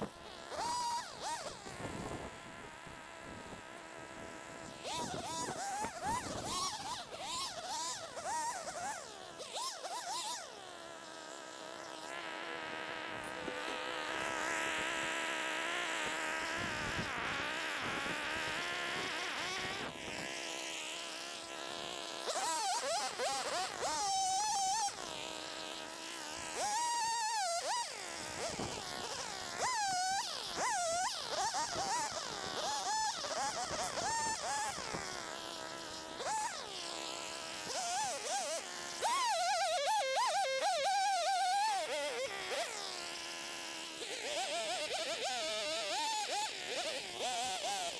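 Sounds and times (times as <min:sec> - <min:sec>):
small chainsaw revving: 0:00.0 - 0:47.9
two-stroke engine buzzing: 0:00.0 - 0:47.9.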